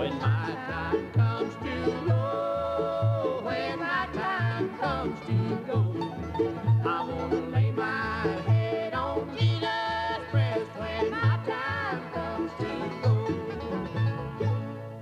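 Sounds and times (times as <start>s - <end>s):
bluegrass banjo music: 0.0s - 15.0s.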